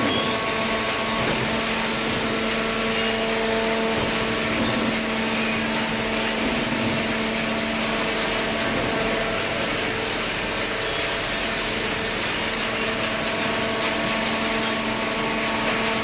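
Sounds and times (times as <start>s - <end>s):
baler machine hum: 0.0s - 16.0s.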